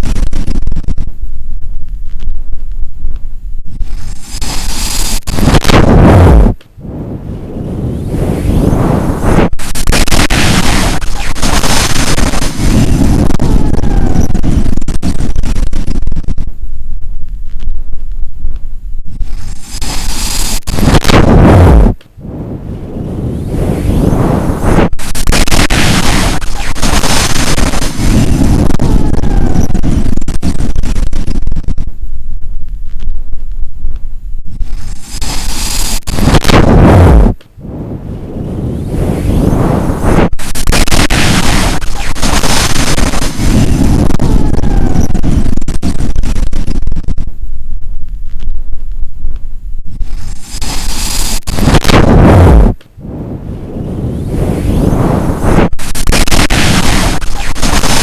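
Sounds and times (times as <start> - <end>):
strong wind buffeting microphone: 0.0 - 58.0.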